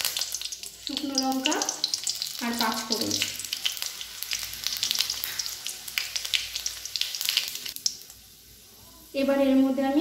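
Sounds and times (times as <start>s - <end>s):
spices sizzling in hot oil: 0.0s - 10.0s.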